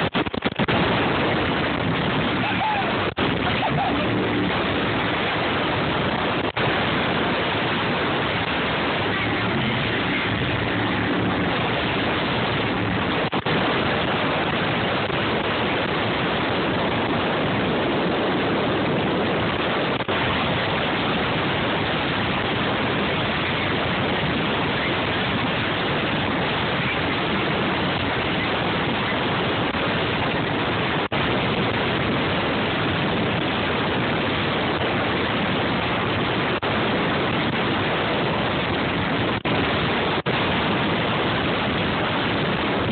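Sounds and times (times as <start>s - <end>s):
speedboat rushing over water: 0.0s - 42.9s
wind on microphone: 0.0s - 42.9s.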